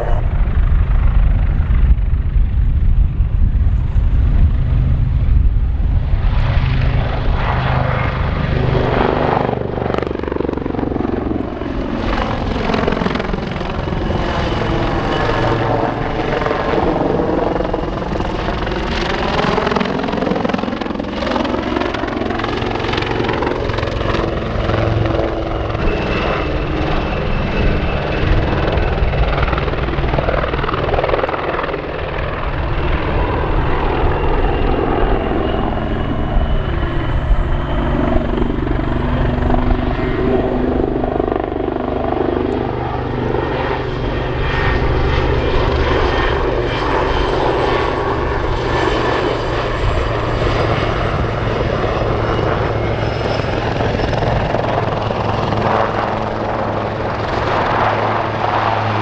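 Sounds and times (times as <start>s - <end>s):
helicopter engines and rotor: 0.0s - 59.0s
high turbine whine: 0.0s - 59.0s.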